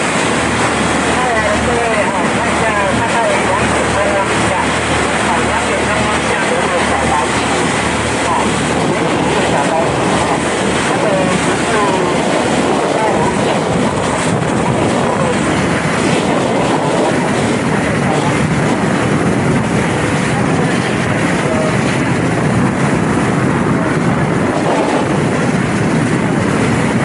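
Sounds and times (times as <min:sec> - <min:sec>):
motorboat engine: 0:00.0 - 0:27.0
rushing water: 0:00.0 - 0:27.0
wind noise: 0:00.0 - 0:27.0.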